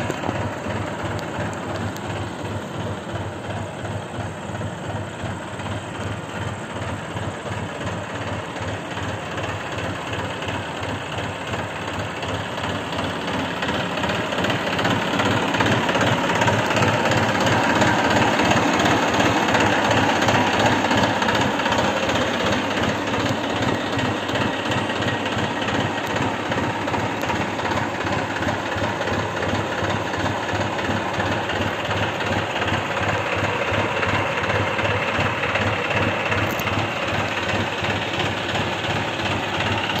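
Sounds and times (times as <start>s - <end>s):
tractor diesel engine chugging: 0.0s - 40.0s.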